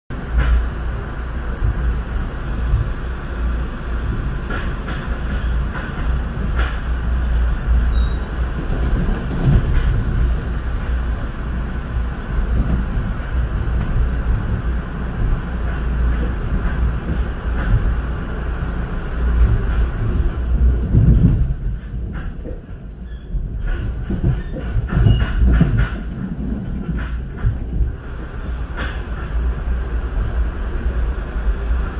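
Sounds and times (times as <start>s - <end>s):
train rumble inside car: 0.1s - 31.9s.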